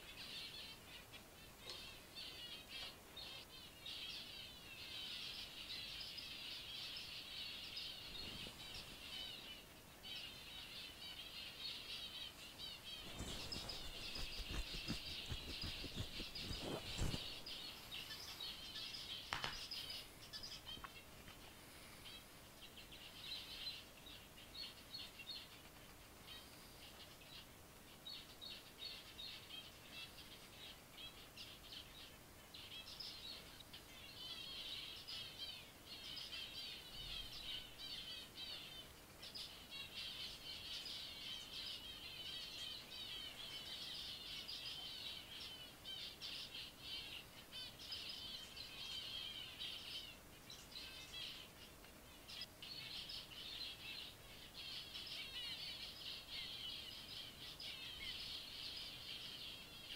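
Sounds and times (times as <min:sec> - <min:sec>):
finches chirping and singing: 0:00.0 - 0:59.9.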